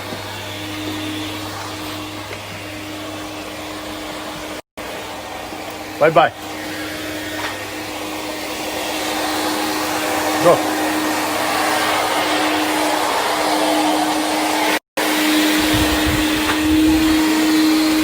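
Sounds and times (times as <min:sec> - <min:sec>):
vacuum cleaner whirring: 0:00.0 - 0:18.0.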